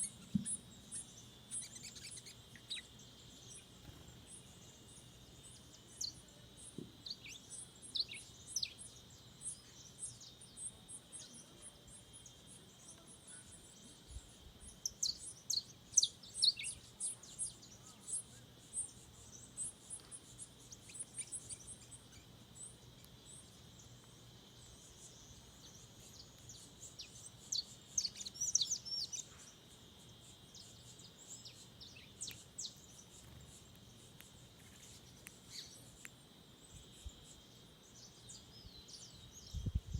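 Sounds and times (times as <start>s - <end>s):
forest birds chirping: 0.0s - 39.9s
steady high-pitched hum: 0.0s - 39.9s.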